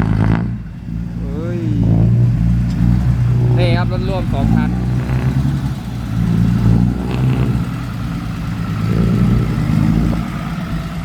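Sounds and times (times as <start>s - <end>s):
dump truck diesel engines driving by: 0.0s - 11.0s.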